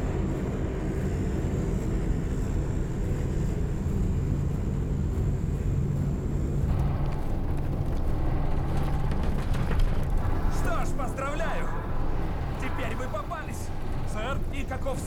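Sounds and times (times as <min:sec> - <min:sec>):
turboprop plane droning in flight: 0:00.0 - 0:15.0.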